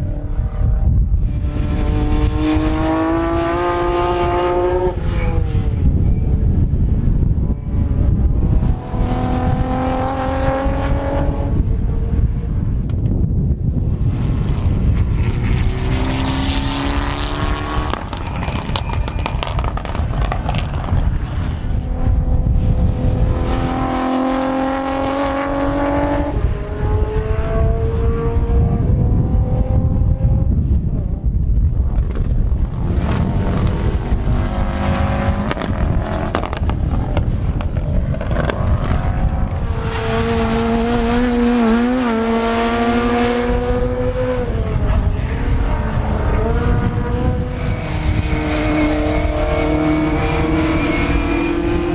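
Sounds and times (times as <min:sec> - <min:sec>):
wind buffeting microphone: 0:00.0 - 0:51.9
cars accelerating hard past: 0:00.4 - 0:06.0, 0:08.4 - 0:11.8, 0:13.9 - 0:30.3, 0:32.0 - 0:51.9.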